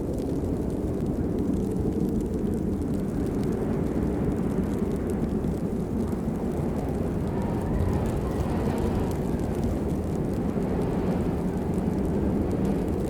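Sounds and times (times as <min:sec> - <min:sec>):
steady rain rumble: 0:00.0 - 0:13.0.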